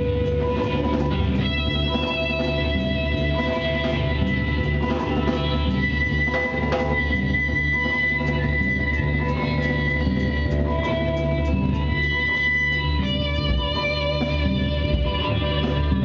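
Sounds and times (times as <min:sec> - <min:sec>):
guitar long held notes: 0:00.0 - 0:16.0
live band jamming: 0:00.0 - 0:16.0.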